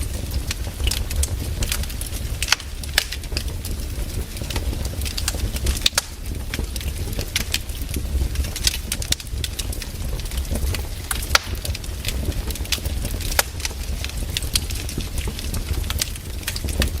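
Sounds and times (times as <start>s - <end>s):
firewood crackling: 0.0s - 17.0s.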